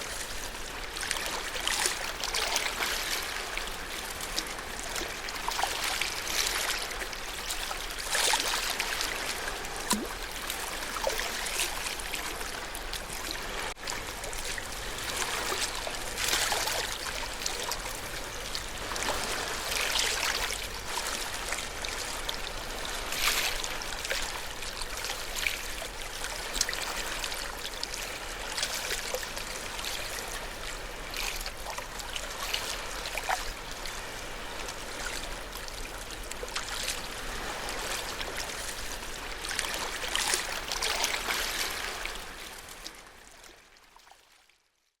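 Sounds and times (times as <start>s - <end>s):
ocean waves washing onto shore: 0.0s - 43.4s.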